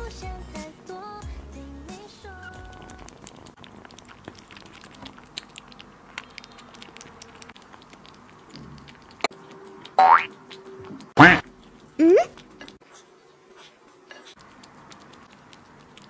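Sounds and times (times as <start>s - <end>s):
kittens licking and chewing: 0.0s - 16.0s.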